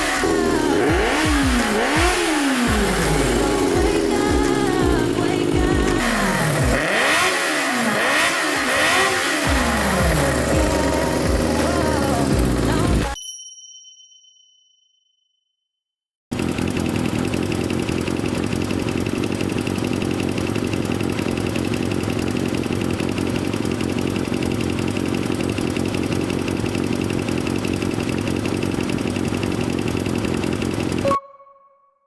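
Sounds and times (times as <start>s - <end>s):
motorcycle engine idling: 0.0s - 13.2s, 16.3s - 31.0s.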